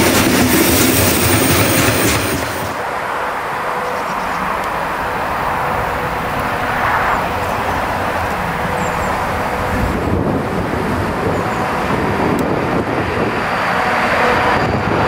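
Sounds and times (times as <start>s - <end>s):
distant freight train rumble: 0.0s - 15.0s.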